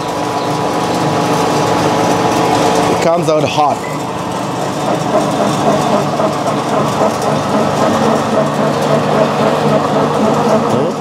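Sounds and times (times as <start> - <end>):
pellet mill running: 0.0 - 11.0.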